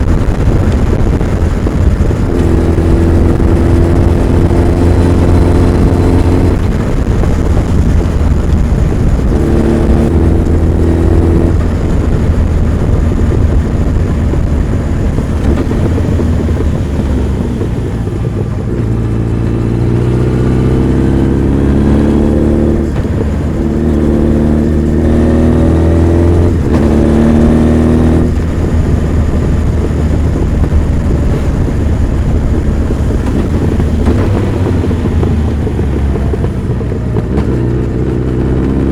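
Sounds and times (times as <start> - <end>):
motorcycle engine accelerating through gears: 0.0 - 38.9.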